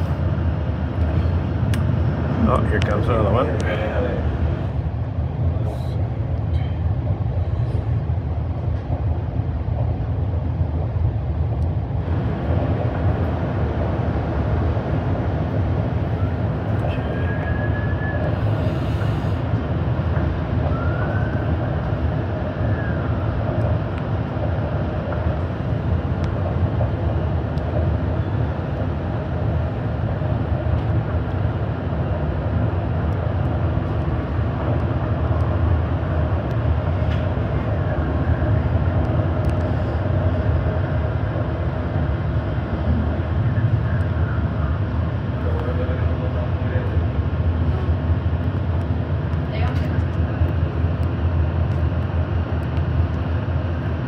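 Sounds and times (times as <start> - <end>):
train interior rumble: 0.0 - 54.0.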